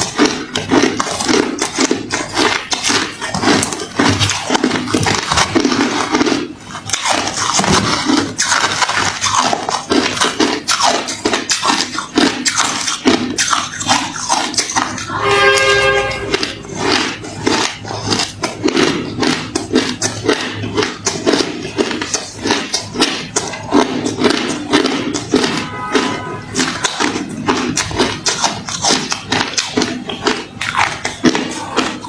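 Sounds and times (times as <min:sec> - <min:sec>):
person crunching ice: 0:00.0 - 0:32.0.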